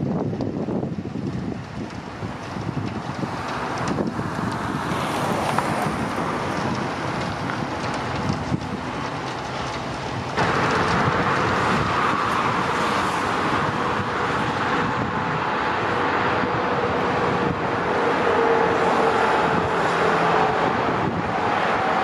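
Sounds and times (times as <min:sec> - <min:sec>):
distant jet engines roaring: 0:00.0 - 0:22.0
wind on microphone: 0:00.0 - 0:22.0.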